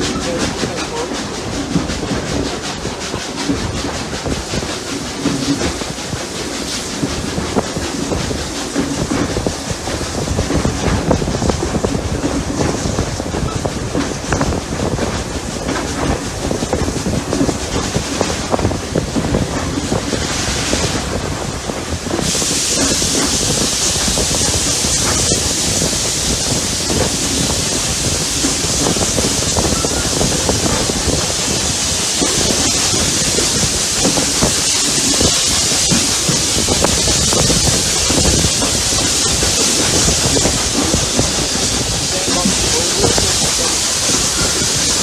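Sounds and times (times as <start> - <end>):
carriages clattering over rails: 0.0 - 45.0
steam locomotive exhaust beats: 0.0 - 45.0.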